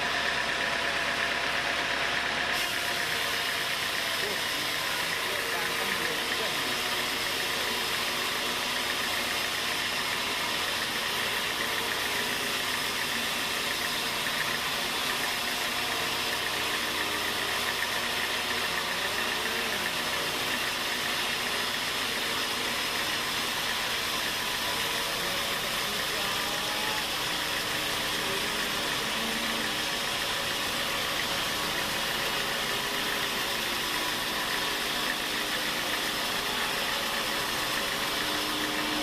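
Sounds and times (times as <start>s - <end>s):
sawmill machinery humming: 0.0s - 39.0s.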